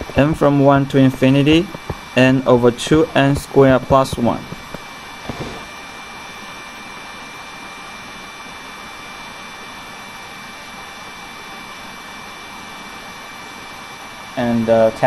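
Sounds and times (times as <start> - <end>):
background hiss and hum: 0.0 - 15.0
faint high whine: 0.0 - 15.0.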